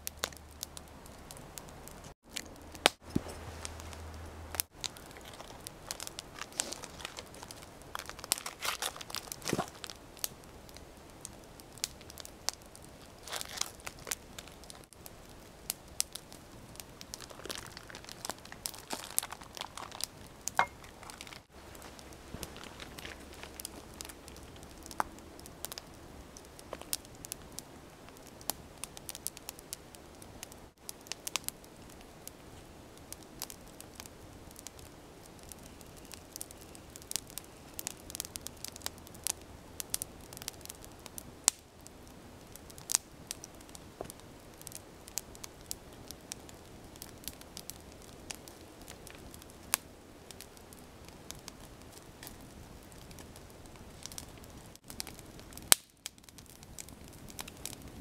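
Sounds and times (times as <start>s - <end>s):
campfire crackling and snapping: 0.0s - 58.0s
faint steady hiss: 0.0s - 58.0s.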